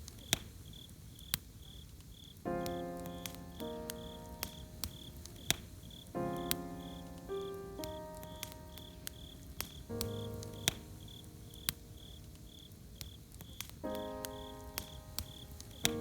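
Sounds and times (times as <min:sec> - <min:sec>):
campfire crackling: 0:00.0 - 0:16.0
crickets chirping: 0:00.2 - 0:16.0.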